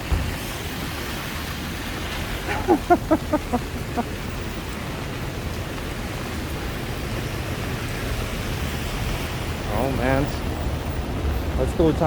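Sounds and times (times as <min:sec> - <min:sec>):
heavy rain hissing: 0:00.0 - 0:12.0
low city rumble: 0:00.0 - 0:12.0.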